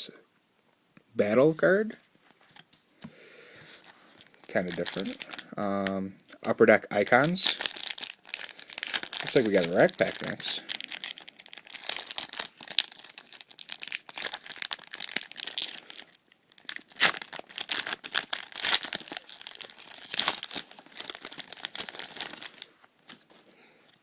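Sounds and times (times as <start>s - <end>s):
plastic wrapper tearing and crinkling: 4.1s - 24.0s.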